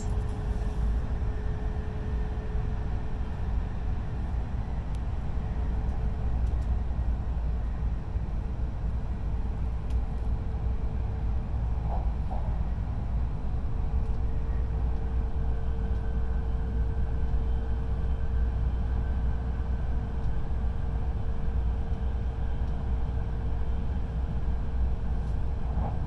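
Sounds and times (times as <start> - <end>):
train rumbling at speed: 0.0 - 26.0.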